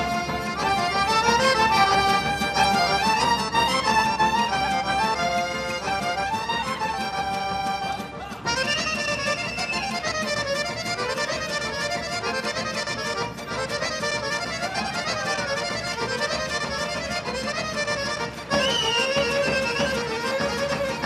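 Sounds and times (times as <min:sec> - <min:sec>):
folk orchestra with accordion: 0:00.0 - 0:21.0.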